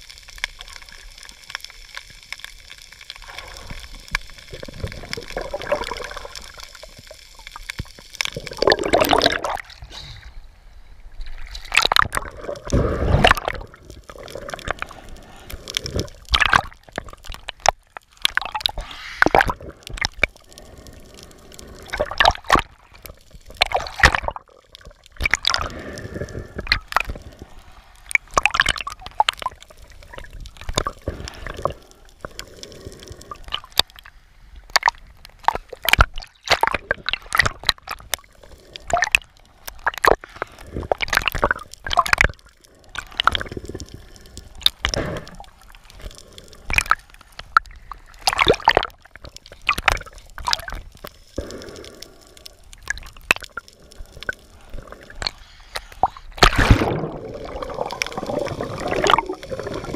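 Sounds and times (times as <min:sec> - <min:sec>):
water gurgling and sloshing: 0:00.0 - 0:59.9.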